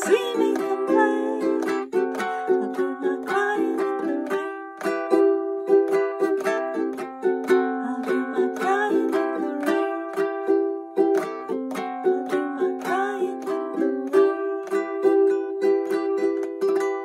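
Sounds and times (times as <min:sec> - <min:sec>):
ukulele strumming: 0:00.0 - 0:17.0.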